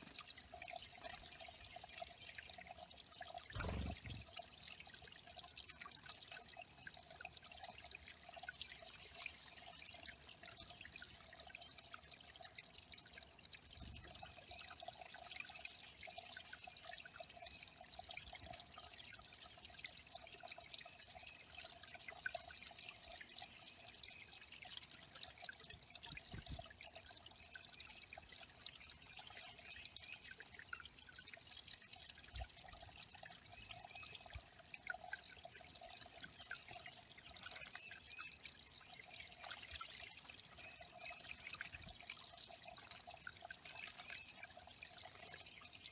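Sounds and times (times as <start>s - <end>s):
water trickling into a pond: 0.0s - 45.9s.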